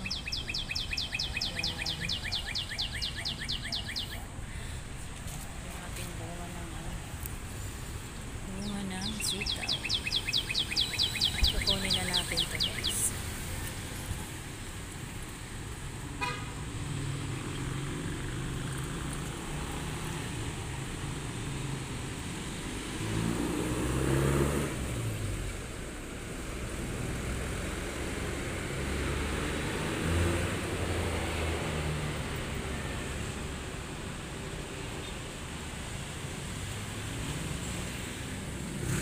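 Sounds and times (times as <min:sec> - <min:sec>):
road traffic engines: 0:00.0 - 0:39.0.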